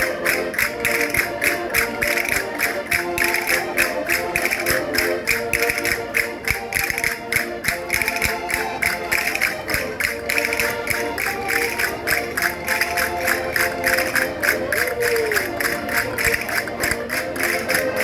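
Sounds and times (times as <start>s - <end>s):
concertinas playing dance tune: 0.0s - 18.0s
sharp rhythmic taps: 0.0s - 18.0s.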